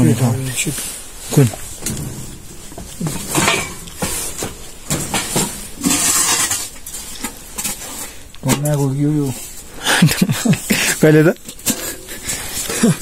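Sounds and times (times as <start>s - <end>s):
clinking and scraping: 0.5s - 9.6s, 10.6s - 13.0s.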